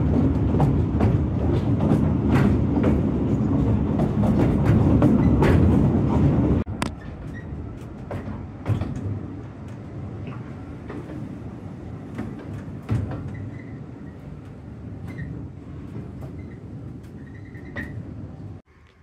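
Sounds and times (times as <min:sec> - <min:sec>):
wheels clunking and rattling: 0:00.0 - 0:18.7
railway carriage rumbling: 0:00.0 - 0:18.9.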